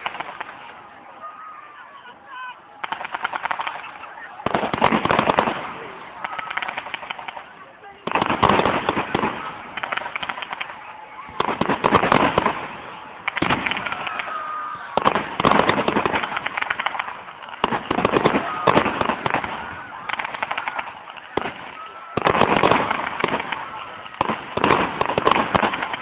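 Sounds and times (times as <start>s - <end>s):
firework bangs: 0.0s - 1.1s, 2.7s - 26.0s
firework crackling: 0.0s - 1.5s, 2.7s - 26.0s.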